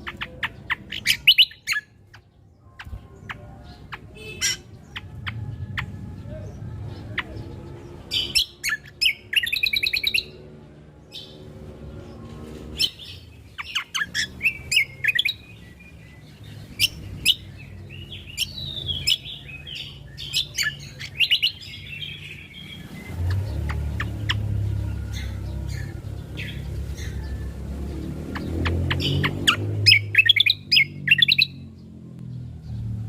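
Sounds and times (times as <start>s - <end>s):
bird chirping and trilling: 0.0s - 33.0s.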